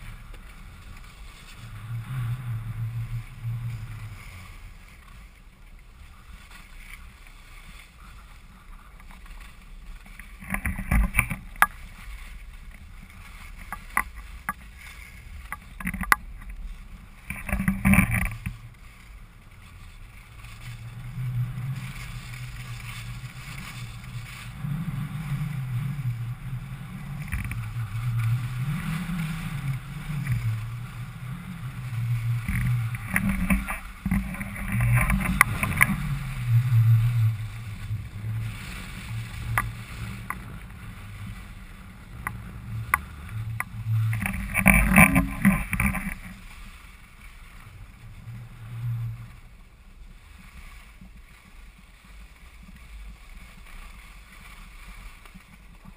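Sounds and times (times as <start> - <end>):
skis scraping over snow: 0.0 - 55.9
wind rumble on microphone: 0.0 - 55.9.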